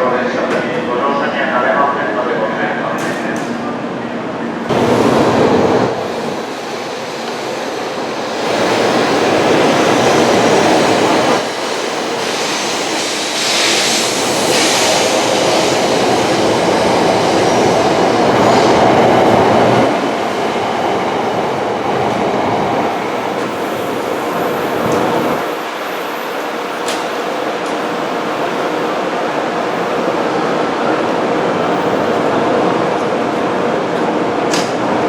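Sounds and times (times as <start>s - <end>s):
high-pitched train noise: 0.0s - 35.0s
train wheels rumbling on rail: 4.6s - 35.0s.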